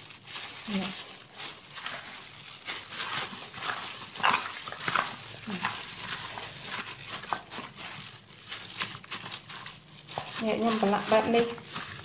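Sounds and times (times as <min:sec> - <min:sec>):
plastic bag crinkling: 0:00.0 - 0:12.0
wet squelching of meat: 0:00.0 - 0:12.0.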